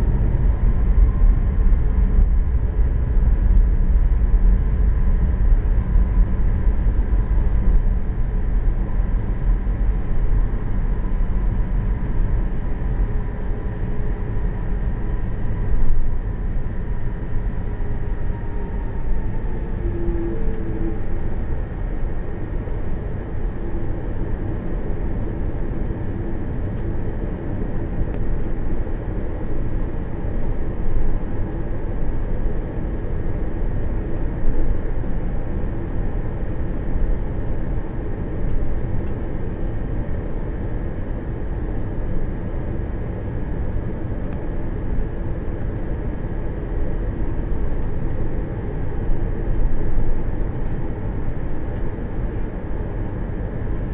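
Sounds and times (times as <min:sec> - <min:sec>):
aircraft cabin rumble: 0:00.0 - 0:53.9
faint constant whine: 0:00.0 - 0:53.9.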